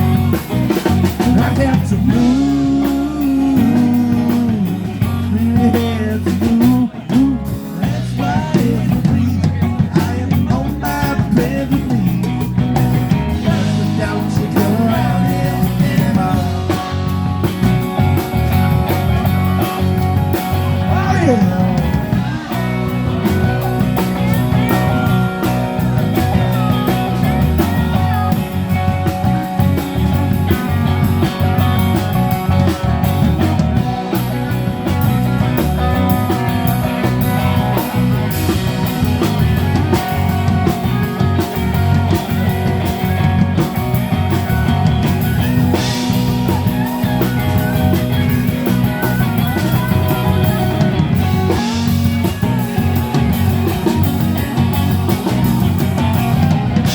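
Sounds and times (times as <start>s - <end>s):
bass guitar: 0.0s - 56.9s
drum kit beat: 0.0s - 56.9s
electric guitar lead: 0.0s - 56.9s.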